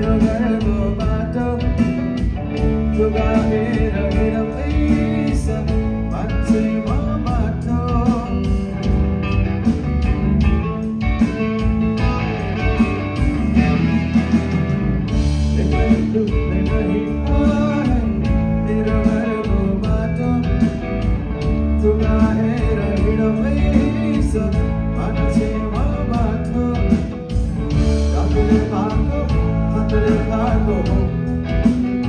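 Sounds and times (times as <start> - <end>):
bass guitar: 0.0 - 32.0
drum kit: 0.0 - 32.0
electric guitars: 0.0 - 32.0.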